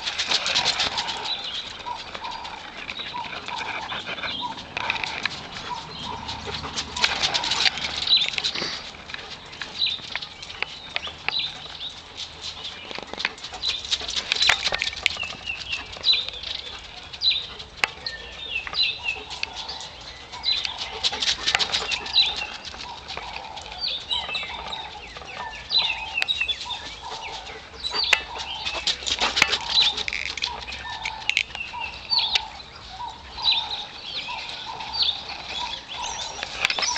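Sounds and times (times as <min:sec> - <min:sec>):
sharp clicks and rustles: 0:00.0 - 0:32.5, 0:34.4 - 0:36.9
birds chirping: 0:00.0 - 0:36.9
lower repeated bird notes: 0:00.0 - 0:36.9.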